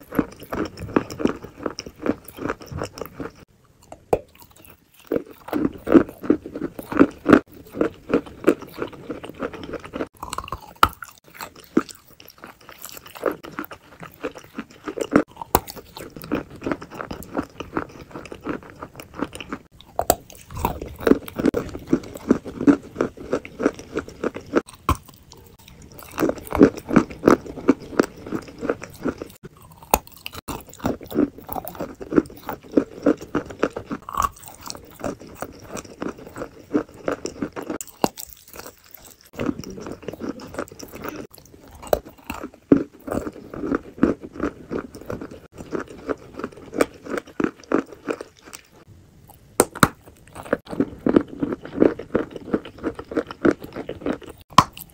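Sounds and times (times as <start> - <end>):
wet chewing and smacking: 0.0 - 54.9.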